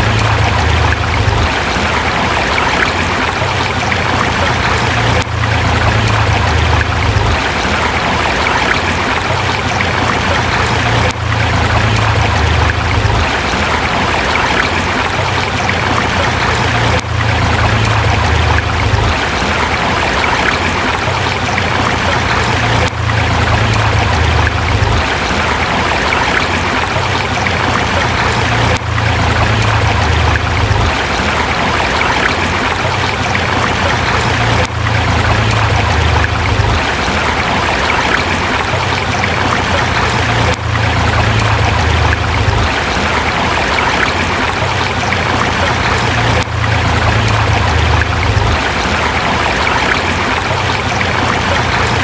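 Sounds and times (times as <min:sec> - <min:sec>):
river flowing over rocks: 0:00.0 - 0:52.0.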